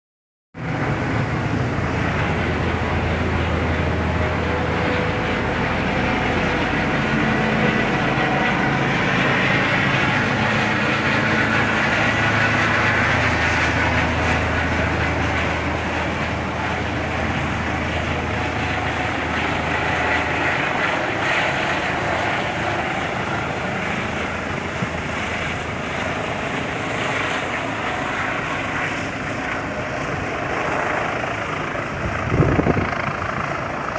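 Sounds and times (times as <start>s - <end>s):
helicopter rotor and engine: 0.6s - 33.9s.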